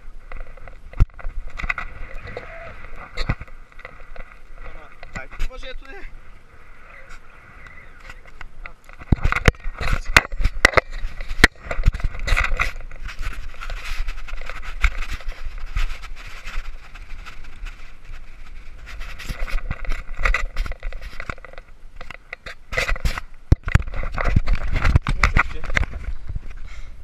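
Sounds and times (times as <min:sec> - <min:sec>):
microphone handling scraping: 0:00.0 - 0:26.9.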